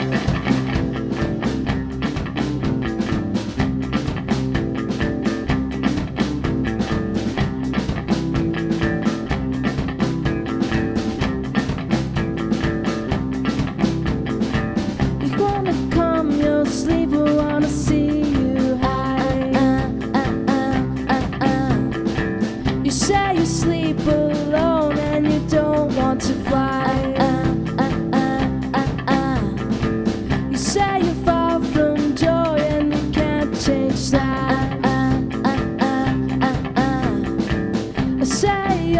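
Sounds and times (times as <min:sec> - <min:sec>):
live blues rock band: 0:00.0 - 0:38.9
steady drum beat: 0:00.0 - 0:38.9.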